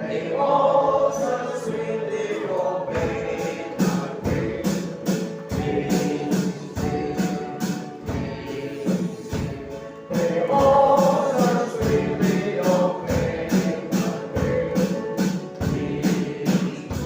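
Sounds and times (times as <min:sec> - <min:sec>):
group singing a hymn: 0:00.0 - 0:17.0
instrumental accompaniment with beat: 0:00.1 - 0:17.0.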